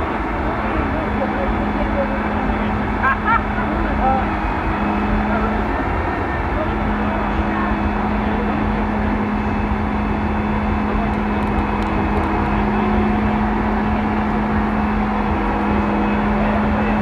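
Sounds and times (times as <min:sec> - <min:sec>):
engine drone: 0:00.0 - 0:17.0
outdoor rumble: 0:00.0 - 0:17.0.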